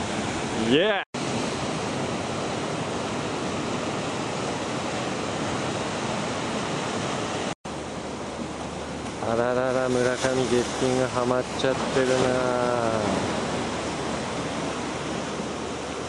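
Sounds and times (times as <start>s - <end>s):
ocean surf breaking waves: 0.0s - 16.0s.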